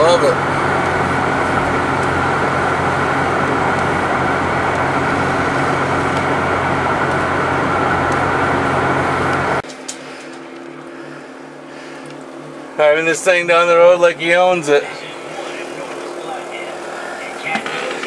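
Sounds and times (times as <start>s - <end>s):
car road and engine noise: 0.0s - 18.0s
quiet engine hum: 0.0s - 18.0s.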